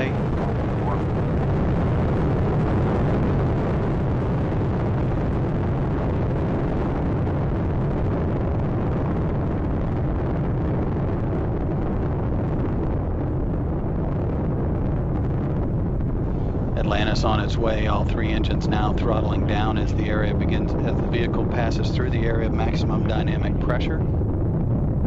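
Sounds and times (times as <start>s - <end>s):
rocket engines deep rumble: 0.0s - 25.0s.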